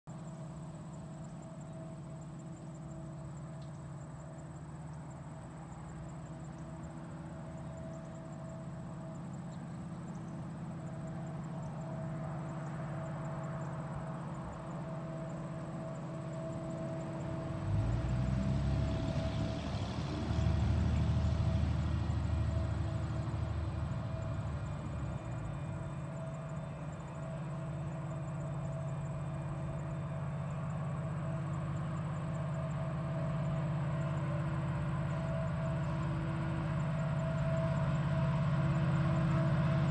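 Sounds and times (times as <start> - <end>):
diesel locomotive engine hum: 0.1 - 39.9.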